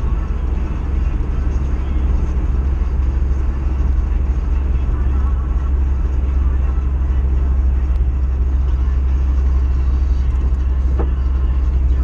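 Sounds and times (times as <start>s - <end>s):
car interior road and engine rumble: 0.0s - 12.0s.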